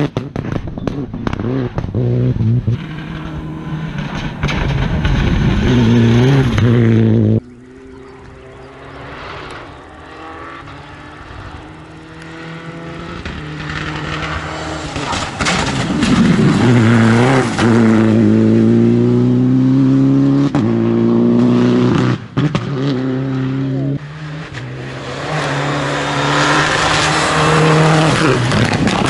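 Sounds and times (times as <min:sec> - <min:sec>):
rally car engine at high revs: 0:00.0 - 0:29.0.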